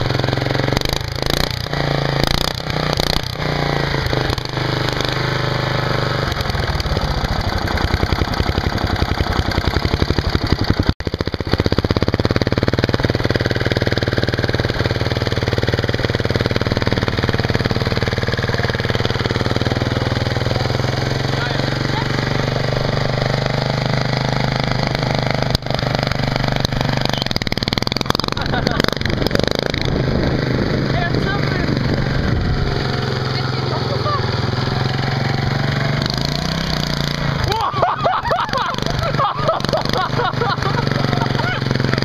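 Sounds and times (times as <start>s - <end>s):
lawnmower engine exhaust pulses: 0.0s - 42.0s.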